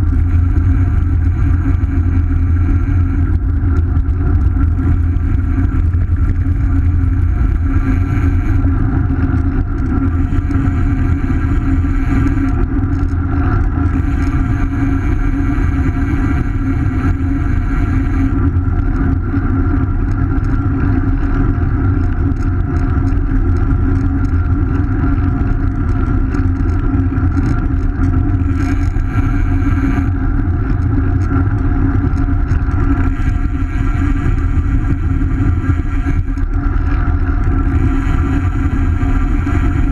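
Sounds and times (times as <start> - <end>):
bicycle tyre rumble on asphalt: 0.0 - 39.9.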